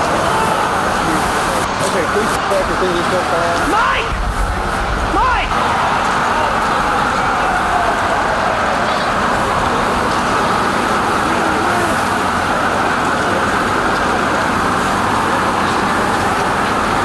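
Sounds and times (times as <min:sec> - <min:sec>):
street traffic din: 0:00.0 - 0:17.0.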